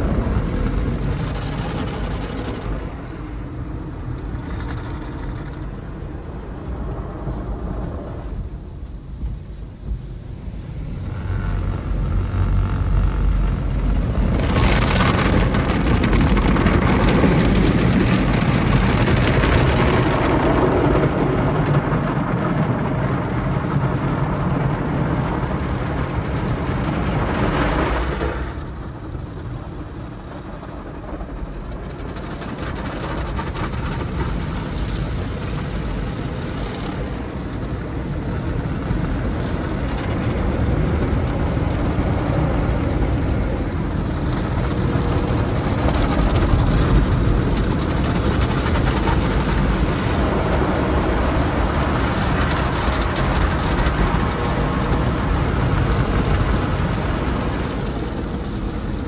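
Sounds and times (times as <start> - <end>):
car wash machinery and water: 0.0 - 59.0.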